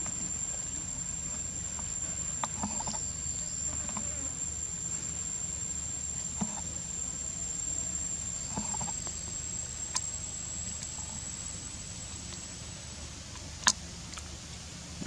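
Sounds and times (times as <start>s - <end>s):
faint low hum: 0.0s - 15.0s
insect drone: 0.0s - 15.0s.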